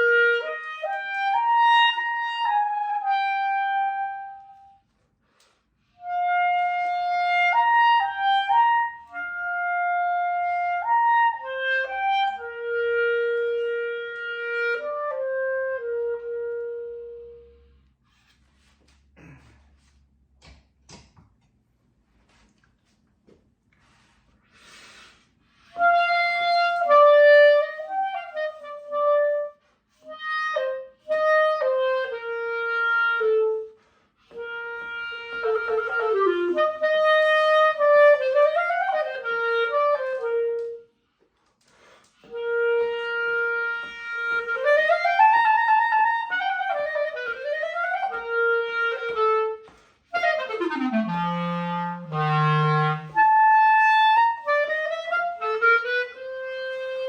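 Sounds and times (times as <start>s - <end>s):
solo clarinet melody: 0.0s - 18.3s, 24.6s - 57.0s.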